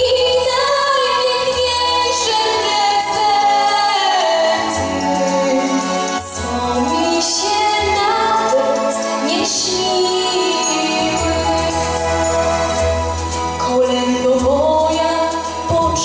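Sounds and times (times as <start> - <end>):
girl singing into microphone: 0.0 - 12.5, 13.6 - 16.0
instrumental accompaniment: 0.0 - 16.0.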